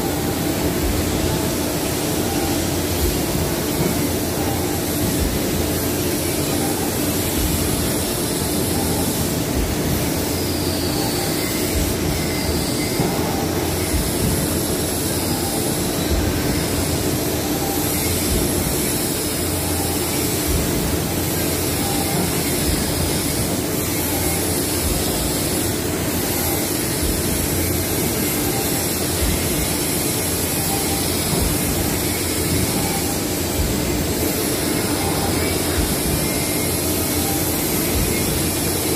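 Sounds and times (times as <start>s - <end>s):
industrial machinery running: 0.0s - 38.9s.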